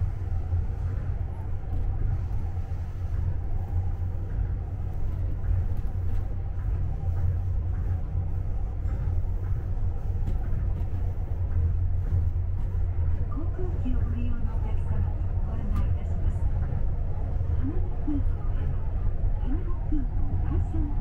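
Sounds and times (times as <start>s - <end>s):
faint hum: 0.0s - 21.0s
monorail train low rumble: 0.0s - 21.0s.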